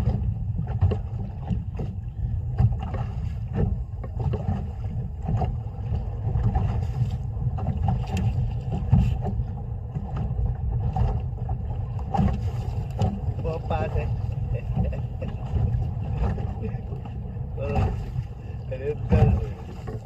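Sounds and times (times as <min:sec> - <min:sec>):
knocks and bumps on boat: 0:00.0 - 0:20.0
wind and water rumble: 0:00.0 - 0:20.0.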